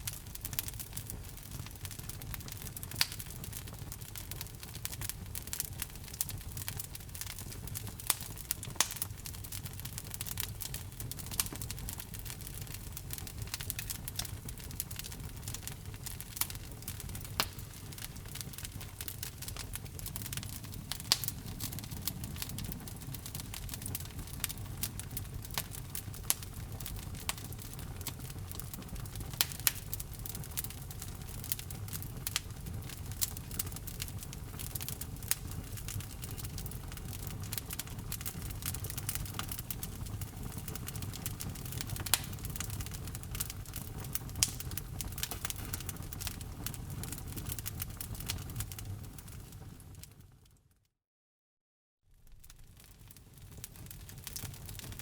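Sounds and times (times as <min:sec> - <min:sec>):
sharp fire pops: 0:00.0 - 0:49.9, 0:52.2 - 0:55.0
low rumble of flame: 0:00.0 - 0:50.6, 0:52.1 - 0:55.0
fire crackling in a fireplace: 0:00.0 - 0:50.7, 0:52.1 - 0:55.0.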